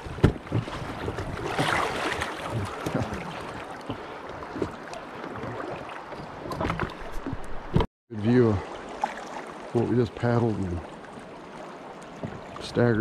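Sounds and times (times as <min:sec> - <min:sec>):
short splashes and knocks: 0:00.0 - 0:07.9, 0:08.6 - 0:13.0.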